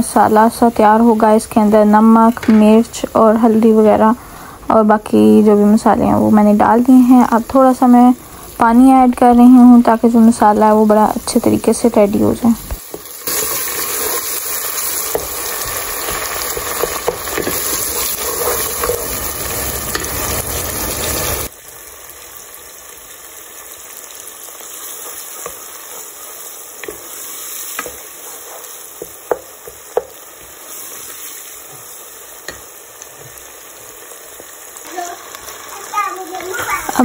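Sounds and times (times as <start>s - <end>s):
masala sizzling in a pot: 0.0s - 37.0s.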